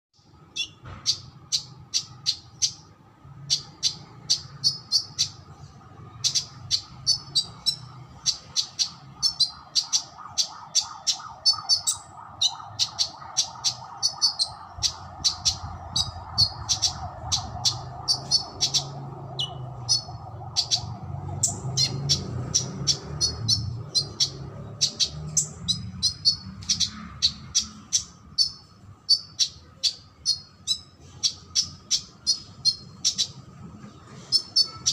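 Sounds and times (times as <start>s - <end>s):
songbird chirping and trilling: 0.2s - 34.9s.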